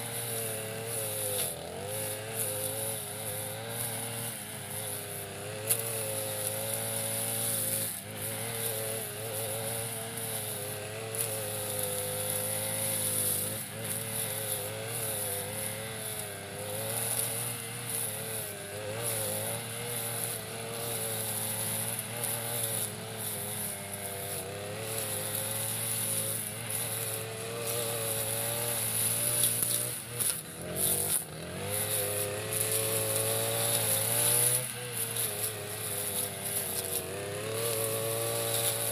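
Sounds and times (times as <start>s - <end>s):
blade cutting tough grass: 0.0s - 38.9s
brush cutter engine running: 0.0s - 38.9s.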